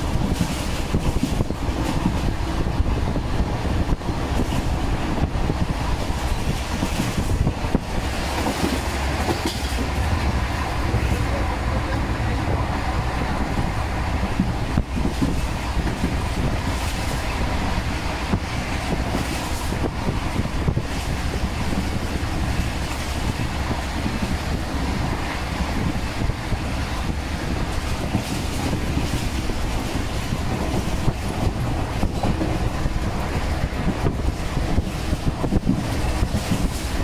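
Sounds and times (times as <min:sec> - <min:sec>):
rushing air: 0:00.0 - 0:37.0
train wheels rumbling on track: 0:00.0 - 0:37.0.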